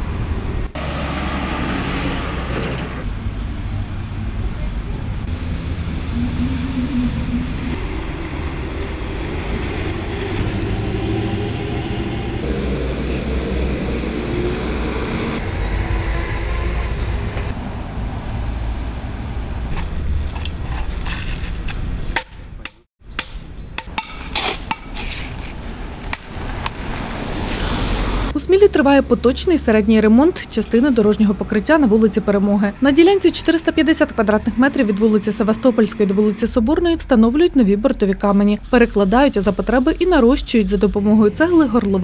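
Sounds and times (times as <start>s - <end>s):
vehicle engines and traffic rumble: 0.0s - 42.0s.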